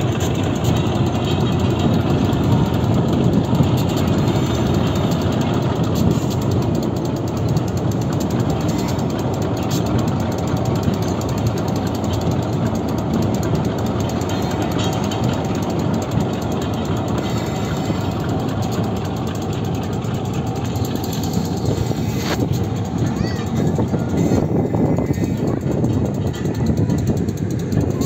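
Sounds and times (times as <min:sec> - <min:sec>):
diesel locomotive engine chugging: 0:00.0 - 0:28.0.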